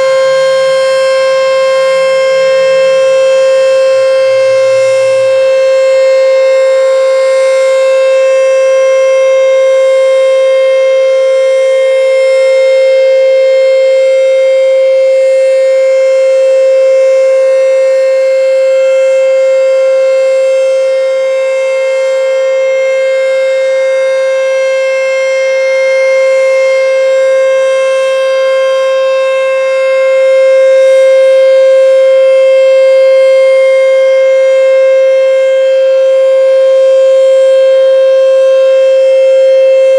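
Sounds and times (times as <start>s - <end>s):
warning siren steady high tone: 0.0s - 39.9s.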